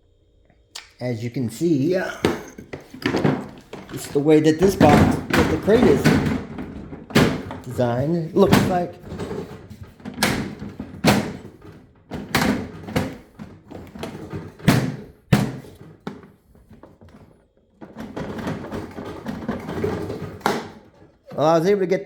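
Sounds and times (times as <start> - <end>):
plastic scraping and shuffling: 1.9 - 21.6.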